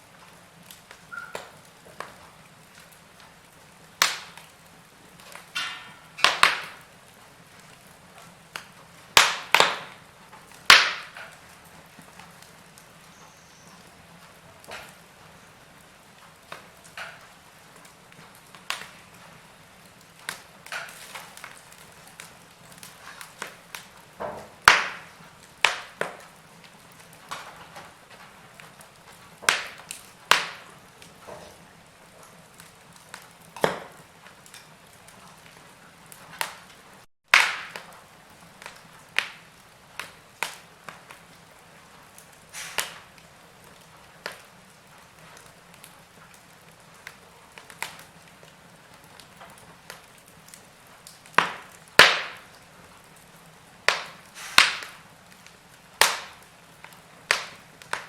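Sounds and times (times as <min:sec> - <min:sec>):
soft steady hiss: 0:00.0 - 0:58.0
wood fire crackling: 0:00.0 - 0:58.0.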